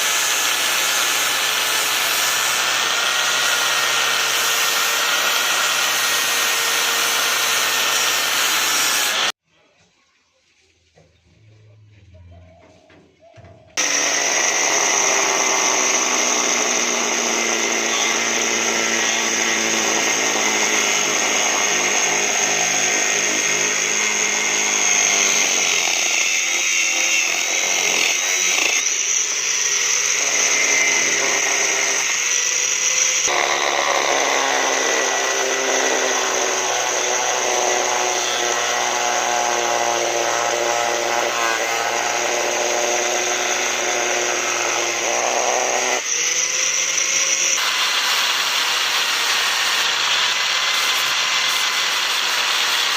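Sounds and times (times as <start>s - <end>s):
electric grinder on steel: 0.0s - 9.4s, 13.8s - 52.9s.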